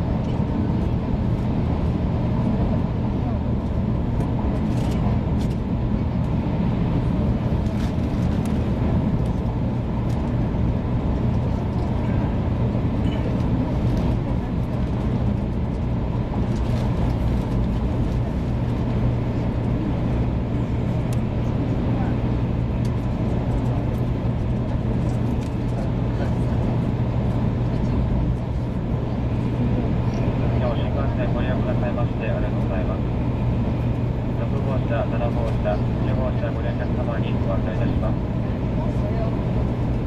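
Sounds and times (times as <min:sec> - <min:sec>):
train cabin running rumble: 0:00.0 - 0:40.0.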